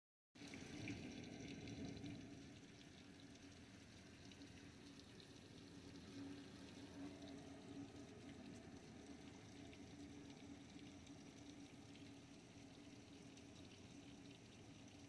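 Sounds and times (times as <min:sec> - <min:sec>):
faint heavy rain: 0:00.4 - 0:15.0.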